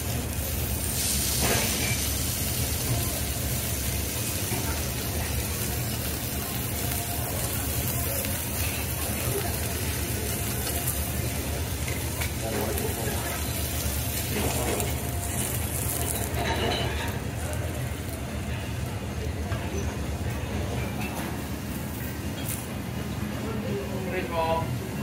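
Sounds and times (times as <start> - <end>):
food sizzling on a griddle: 0.0 - 22.6.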